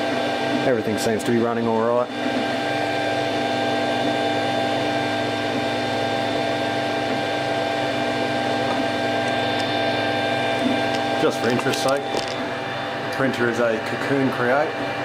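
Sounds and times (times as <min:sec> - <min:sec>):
three d printer fans and motors whirring: 0:00.0 - 0:15.0.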